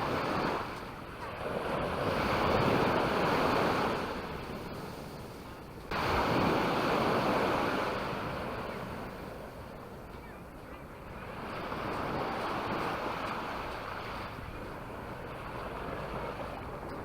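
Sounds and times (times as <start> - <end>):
sea waves washing onto beach: 0.0 - 17.0
wind buffeting microphone: 0.0 - 17.0.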